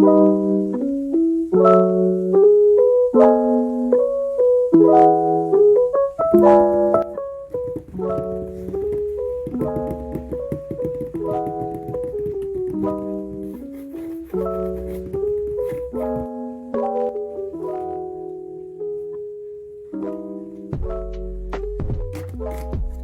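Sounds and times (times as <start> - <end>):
piano playing repeated chords: 0.0 - 23.0.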